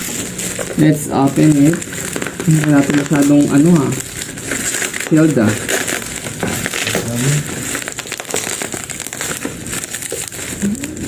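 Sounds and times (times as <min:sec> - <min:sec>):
packaging crinkling and crackling: 0:00.0 - 0:11.0.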